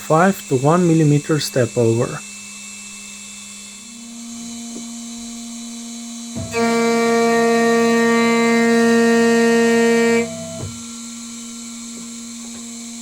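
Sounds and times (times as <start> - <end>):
pitched cutting whine: 0.0 - 13.0
spindle hum: 0.0 - 13.0.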